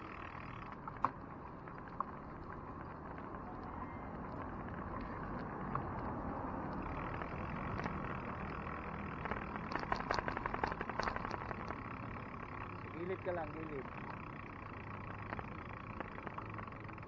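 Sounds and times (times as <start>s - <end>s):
bicycle clicks and rattles: 0.0s - 17.0s
wind and road noise of bicycle: 0.0s - 17.0s.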